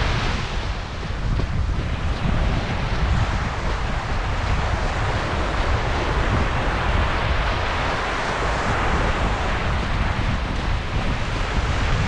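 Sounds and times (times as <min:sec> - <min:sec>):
surf washing: 0:00.0 - 0:12.0
wind buffeting microphone: 0:00.0 - 0:12.0.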